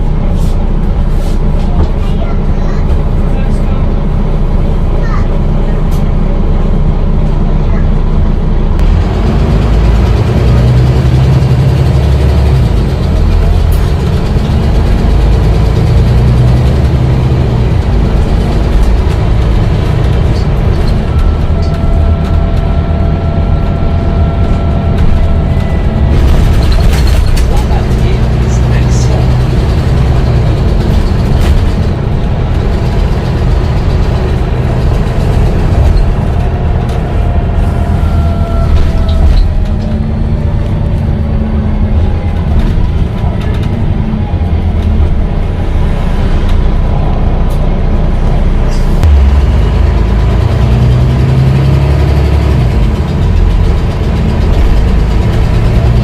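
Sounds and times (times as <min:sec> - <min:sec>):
diesel bus engine rumbling: 0:00.0 - 0:56.0.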